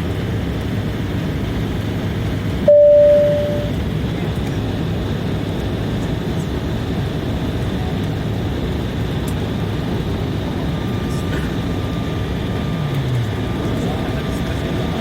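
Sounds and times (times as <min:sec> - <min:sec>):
airliner cabin engine and airflow noise: 0:00.0 - 0:15.0.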